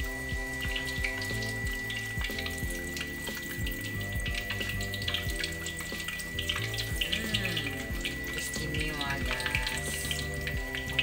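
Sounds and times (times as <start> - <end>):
background music with steady beat: 0.0 - 11.0
hot oil sizzling and crackling: 0.0 - 11.0.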